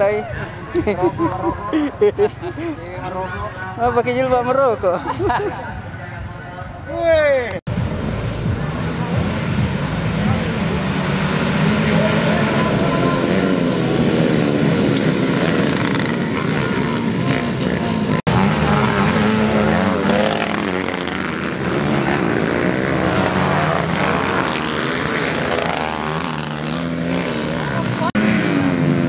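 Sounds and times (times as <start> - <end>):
motocross bikes revving: 0.0 - 6.9, 7.7 - 29.0.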